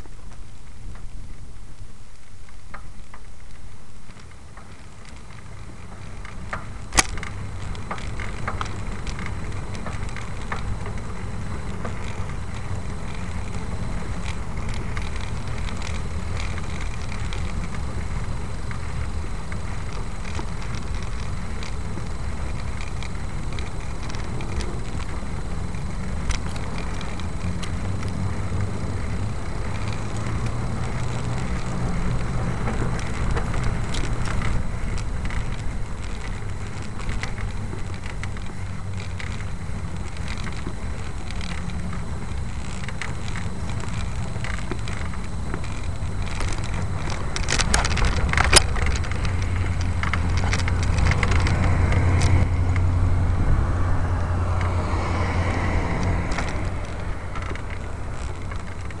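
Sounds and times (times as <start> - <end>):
wind rumble on microphone: 0.0 - 59.0
small clicks: 1.8 - 53.0, 54.1 - 59.0.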